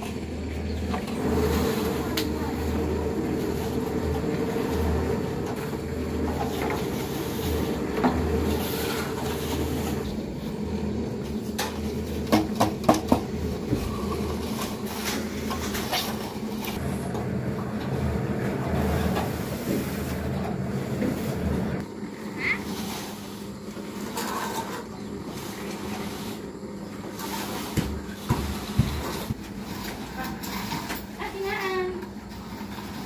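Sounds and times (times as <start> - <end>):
concrete mixer drone: 0.0 - 33.0.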